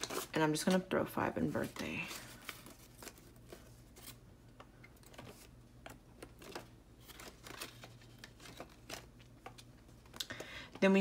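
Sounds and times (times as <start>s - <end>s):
banknotes rustling and crinkling: 0.0s - 4.2s, 5.0s - 11.0s.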